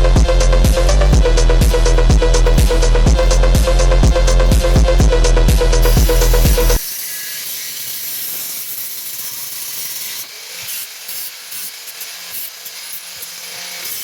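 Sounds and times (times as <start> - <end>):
electric grinder on metal: 0.0 - 14.0.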